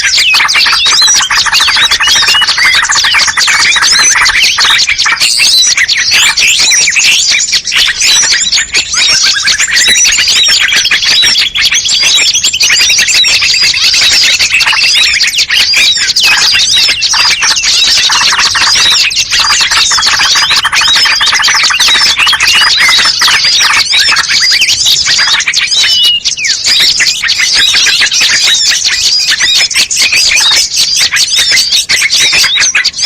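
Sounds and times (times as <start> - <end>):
chorus of songbirds calling: 0.0 - 33.0
long fast bird trill: 0.0 - 33.0.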